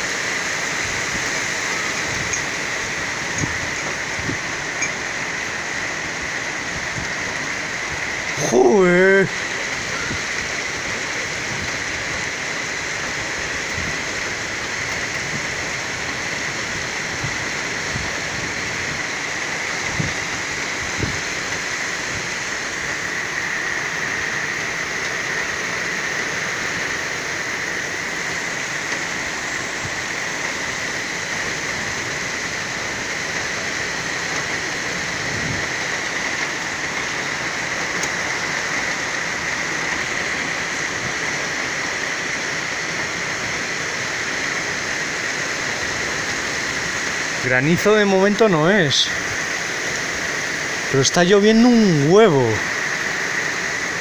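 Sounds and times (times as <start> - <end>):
heavy rain pouring: 0.0 - 54.0
sharp rain taps: 0.0 - 54.0.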